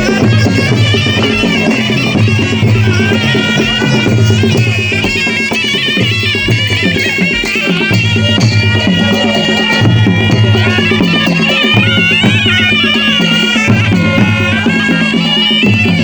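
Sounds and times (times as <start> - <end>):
reedy shehnai melody: 0.0 - 16.0
steady drum beat: 0.0 - 16.0.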